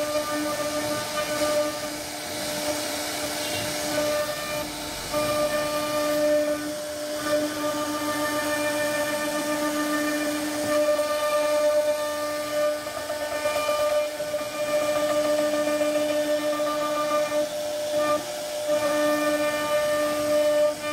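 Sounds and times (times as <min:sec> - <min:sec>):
bit cutting wood hiss: 0:00.0 - 0:20.9
router spindle whining: 0:00.0 - 0:20.9.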